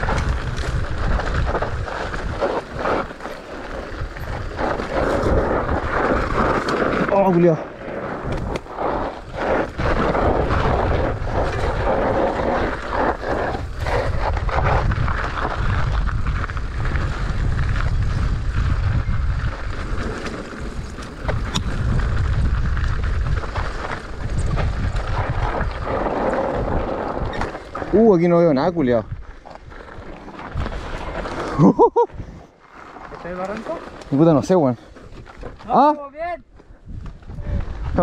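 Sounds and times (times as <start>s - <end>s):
wind buffeting microphone: 0.0s - 32.6s, 36.7s - 38.0s.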